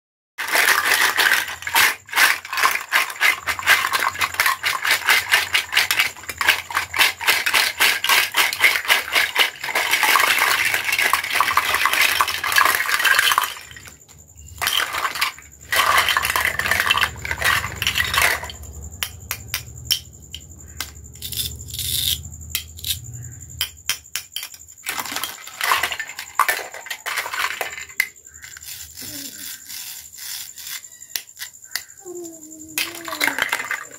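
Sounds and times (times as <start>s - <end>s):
plastic toys clattering: 0.4s - 23.0s, 23.6s - 33.9s.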